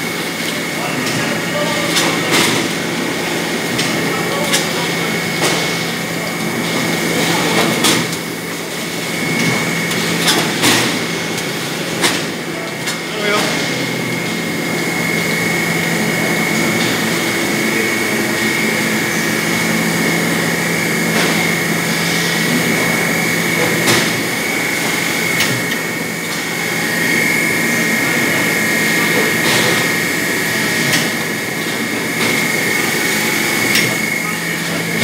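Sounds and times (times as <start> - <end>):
machine hum with high whine: 0.0 - 35.0.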